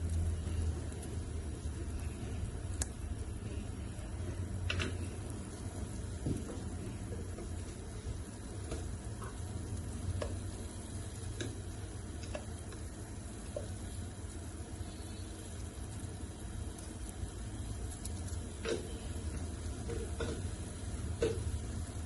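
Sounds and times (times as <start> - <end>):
stove low rumble: 0.0 - 22.0.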